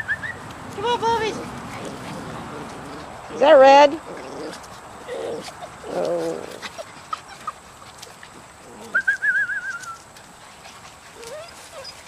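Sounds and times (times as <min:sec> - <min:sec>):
puppies yapping: 0:00.0 - 0:12.0
puppy whining: 0:01.2 - 0:10.1, 0:11.0 - 0:12.0.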